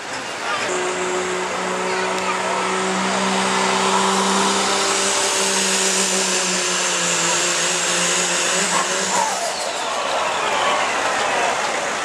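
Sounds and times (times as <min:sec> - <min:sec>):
diesel truck engine at full power: 0:00.0 - 0:12.0.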